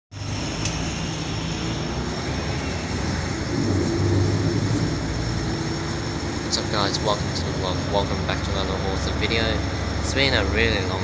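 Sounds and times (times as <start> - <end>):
bus engine hum from inside: 0.1 - 11.0.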